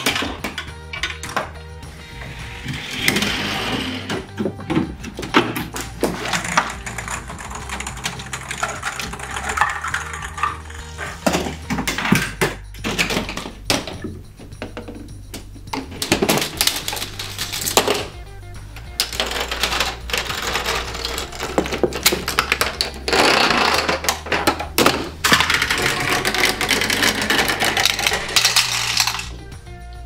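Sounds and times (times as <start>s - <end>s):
toy parts knocking and rolling: 0.0s - 1.6s, 2.6s - 29.4s
background music: 0.0s - 30.0s.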